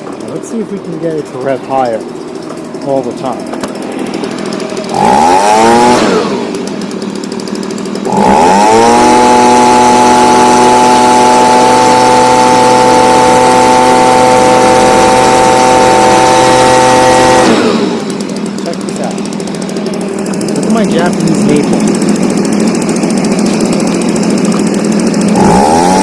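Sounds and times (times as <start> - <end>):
leaf blower engine revving: 0.0 - 26.0.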